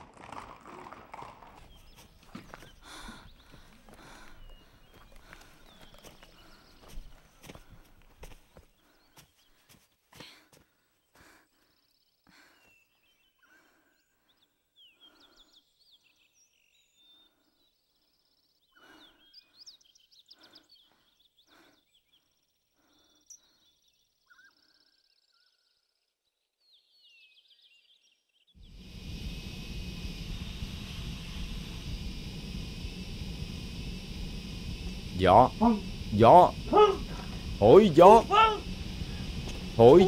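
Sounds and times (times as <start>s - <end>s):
birds chirping: 0.9s - 40.0s.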